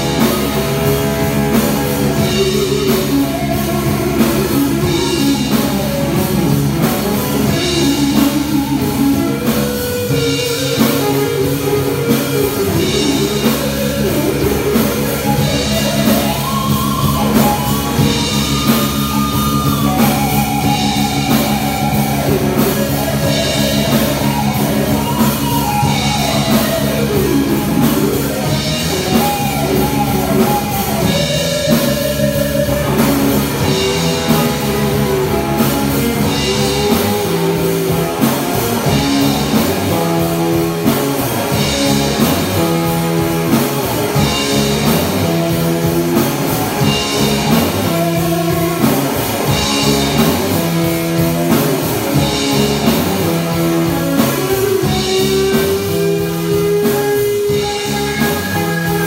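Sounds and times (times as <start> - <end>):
drum kit: 0.0 - 59.0
electric guitars: 0.0 - 59.0
lead guitar bending pitch: 0.0 - 59.0.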